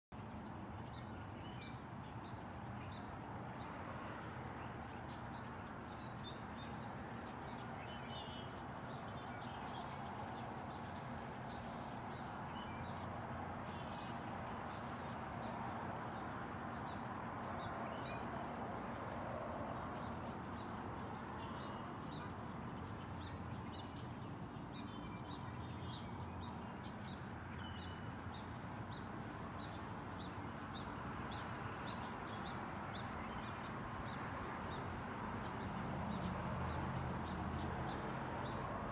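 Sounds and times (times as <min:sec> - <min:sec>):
songbirds chirping and twittering: 0:00.1 - 0:38.9.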